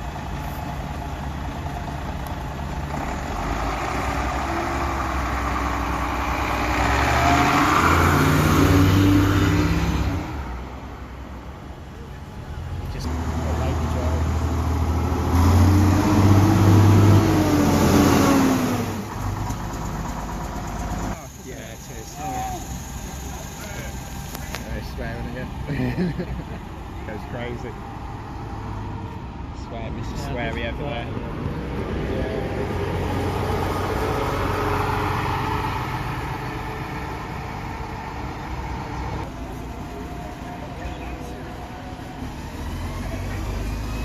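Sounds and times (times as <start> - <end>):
bus engine accelerating: 0.0 - 44.0.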